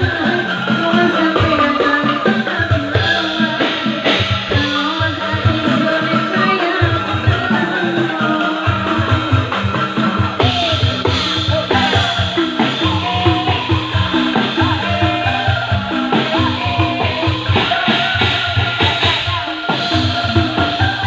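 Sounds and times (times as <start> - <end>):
bass line: 0.0 - 21.0
drum kit beat: 0.0 - 21.0
sliding lead melody: 0.0 - 21.0.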